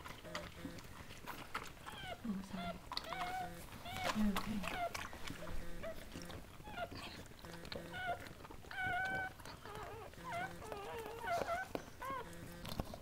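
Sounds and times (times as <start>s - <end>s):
dogs whimpering: 0.0s - 13.0s.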